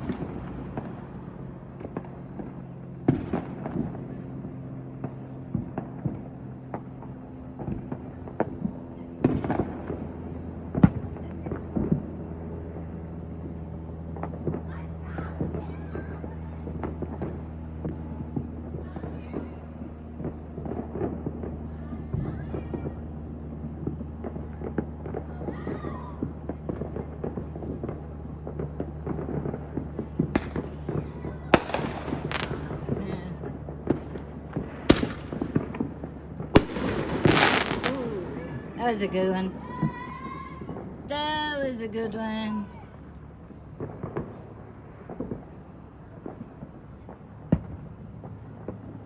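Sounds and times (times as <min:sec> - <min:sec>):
fireworks bangs: 0:00.0 - 0:49.0
fireworks popping and crackling: 0:00.0 - 0:49.0.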